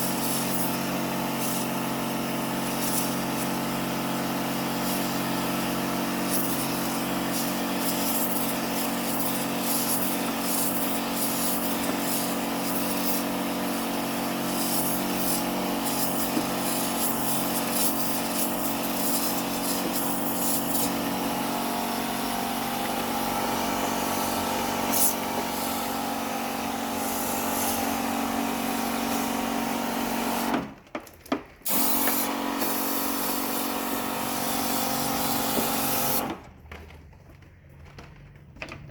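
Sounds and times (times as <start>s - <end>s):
hissing spray: 0.0s - 30.6s, 31.7s - 36.4s
electric sprayer pump running: 0.0s - 30.9s, 31.6s - 36.5s.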